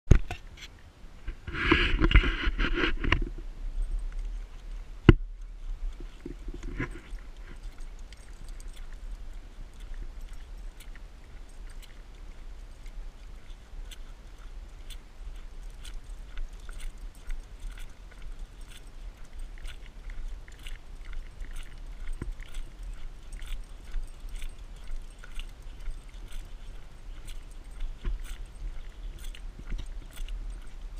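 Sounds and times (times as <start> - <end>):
low steady rumble: 0.2 - 30.9
paws ticking on pavement: 1.6 - 30.9
scuffing on pavement: 3.7 - 30.9.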